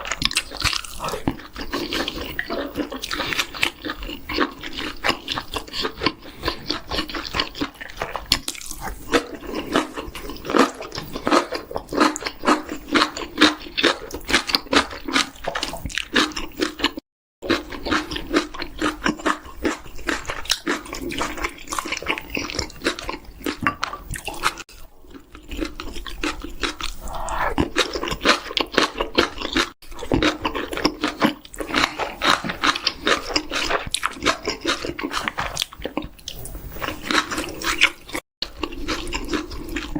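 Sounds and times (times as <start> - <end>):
chewing and crunching chicken: 0.0 - 39.9.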